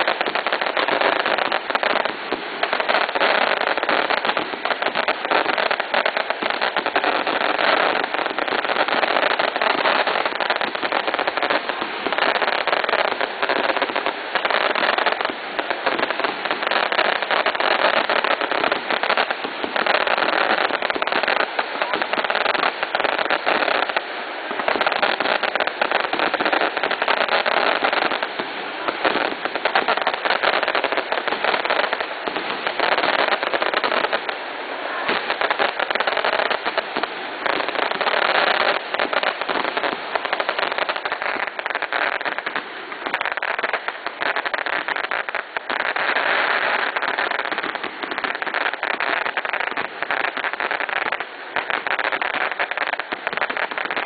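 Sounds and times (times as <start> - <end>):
fireworks crackling and popping: 0.0 - 54.0.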